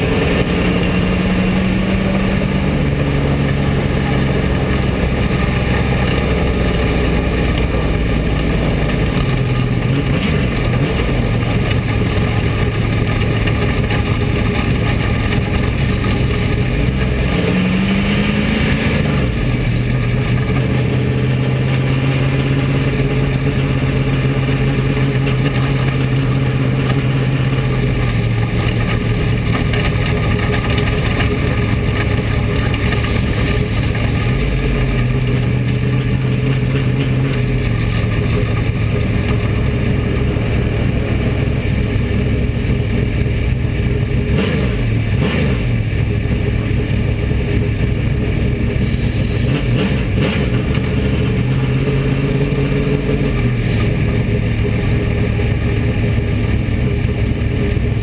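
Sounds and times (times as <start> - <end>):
race car engine running: 0.0 - 58.0
wind and road noise: 0.0 - 58.0.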